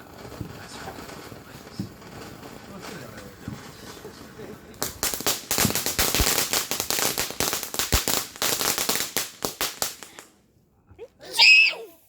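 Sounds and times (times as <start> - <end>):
fireworks crackling and popping: 0.0 - 10.5.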